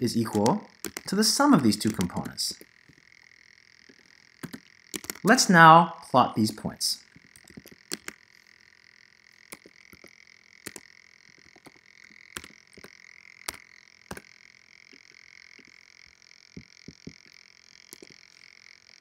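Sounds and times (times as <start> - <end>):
keyboard typing: 0.0 - 5.6, 6.4 - 18.6
steady hiss: 0.0 - 19.0.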